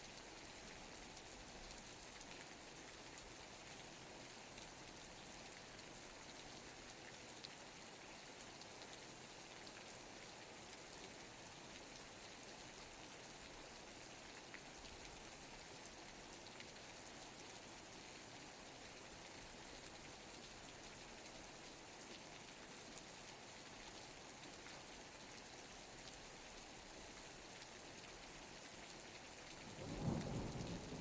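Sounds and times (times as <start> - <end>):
rain hissing on surfaces: 0.0 - 31.0.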